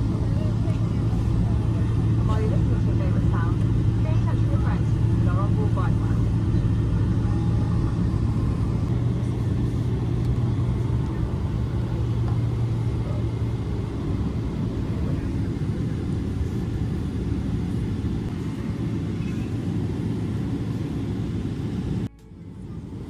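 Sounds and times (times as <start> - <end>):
airplane cabin rumble: 0.0 - 23.0
low hum: 0.0 - 23.0.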